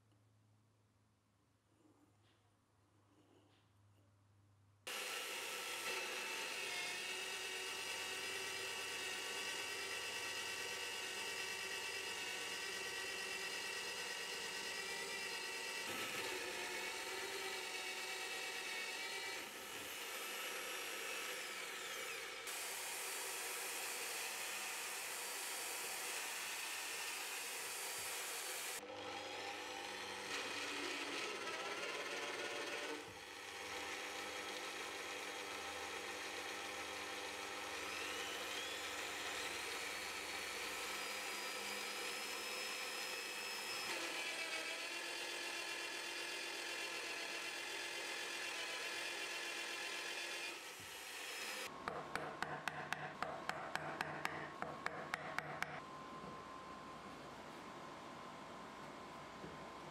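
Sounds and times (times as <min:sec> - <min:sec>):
drill press motor whine: 0:04.9 - 0:28.0, 0:28.6 - 0:56.9
drill bit cutting wood: 0:04.9 - 0:55.8.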